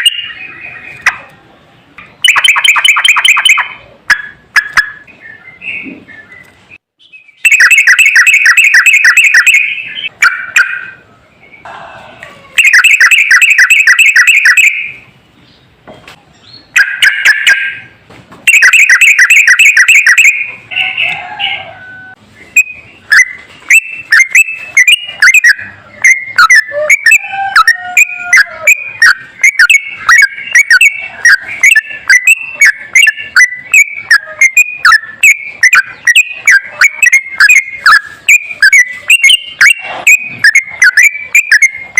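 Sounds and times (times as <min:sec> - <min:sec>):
bird chirping: 0:00.0 - 0:11.7, 0:12.6 - 0:41.9.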